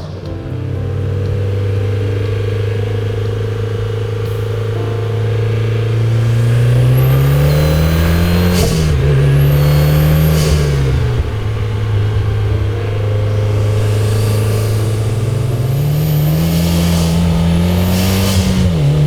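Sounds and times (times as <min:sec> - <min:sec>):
car engine revving: 0:00.0 - 0:19.0
faint high turbo whine: 0:00.0 - 0:19.0.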